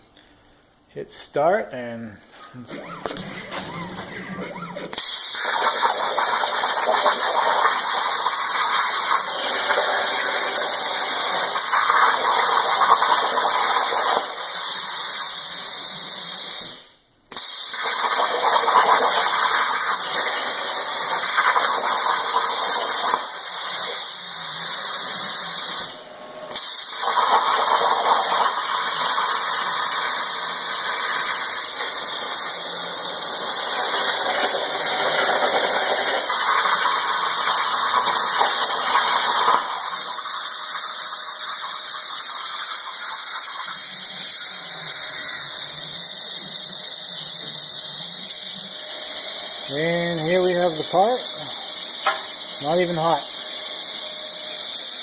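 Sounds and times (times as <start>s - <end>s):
plasma cutter hissing: 2.5s - 55.0s.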